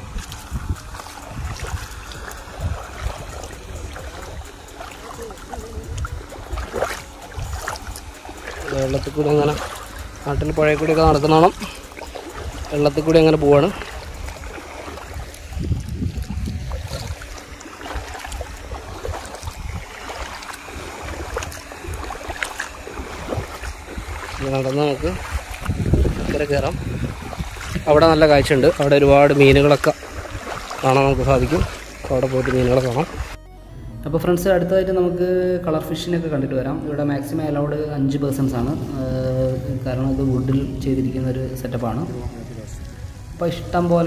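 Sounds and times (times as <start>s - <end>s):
footsteps wading through shallow water: 0.0s - 33.4s, 35.9s - 44.0s
wind rumble on microphone: 0.0s - 34.1s, 37.1s - 44.0s.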